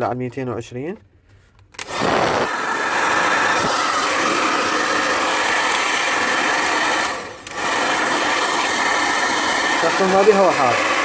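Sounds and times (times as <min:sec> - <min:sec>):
hair dryer blowing: 0:01.8 - 0:11.0.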